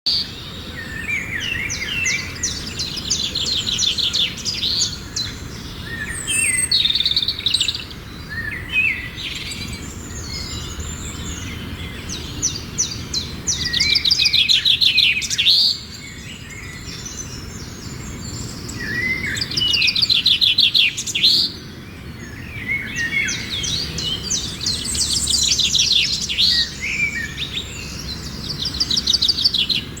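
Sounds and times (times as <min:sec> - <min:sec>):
songbirds chirping: 0:00.1 - 0:30.0.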